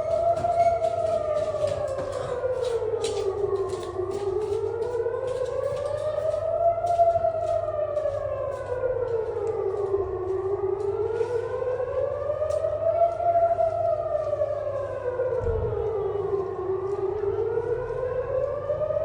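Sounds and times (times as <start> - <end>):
electronic siren wailing: 0.0 - 19.0.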